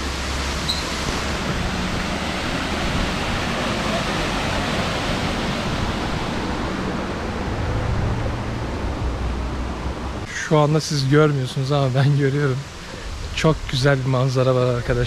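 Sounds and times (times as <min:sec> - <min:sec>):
rushing stream and waterfall: 0:00.0 - 0:15.0.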